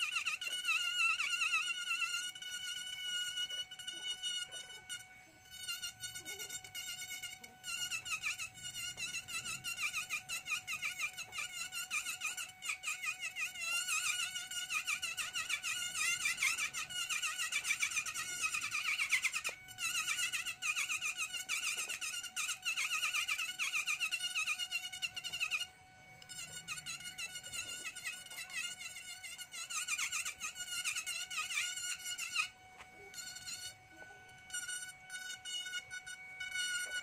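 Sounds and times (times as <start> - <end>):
rotary carving pen whining: 0.0 - 37.0.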